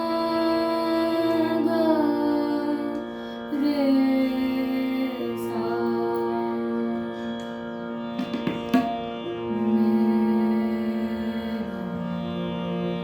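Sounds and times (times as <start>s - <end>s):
woman singing slow long notes: 0.0s - 7.6s, 9.4s - 13.0s
steady drone accompaniment: 0.0s - 13.0s.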